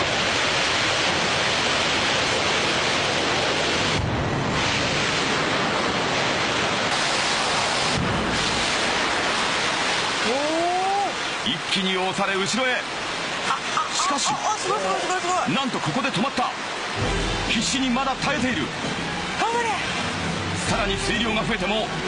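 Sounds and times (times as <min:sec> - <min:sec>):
flood water rushing: 0:00.0 - 0:22.0.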